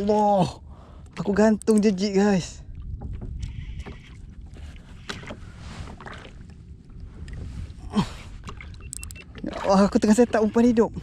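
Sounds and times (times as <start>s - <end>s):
water around kayak: 0.0s - 11.0s
wind rumble on microphone: 0.0s - 11.0s.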